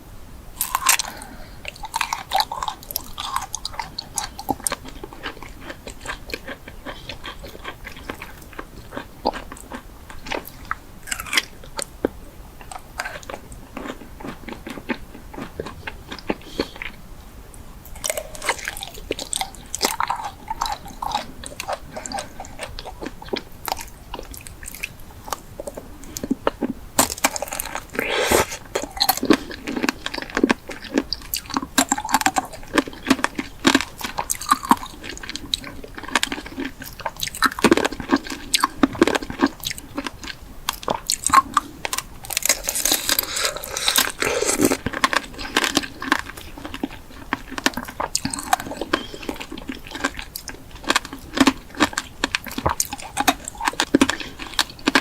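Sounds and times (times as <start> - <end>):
chewing crunchy food: 0.6 - 55.0.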